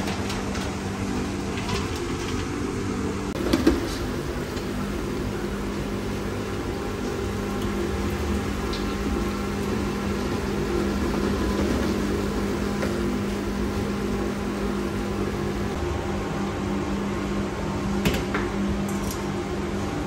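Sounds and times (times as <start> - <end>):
kitchen machinery humming: 0.0 - 20.0.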